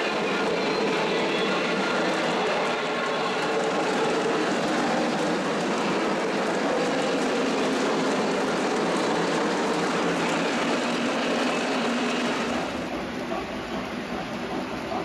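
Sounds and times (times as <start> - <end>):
model train wheels rattling on rails: 0.0 - 15.0.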